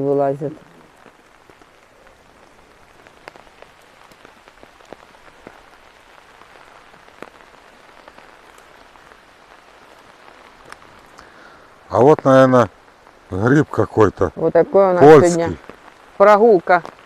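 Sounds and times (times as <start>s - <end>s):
sharp raindrops striking close: 0.0s - 17.0s
steady light rain: 0.0s - 17.0s.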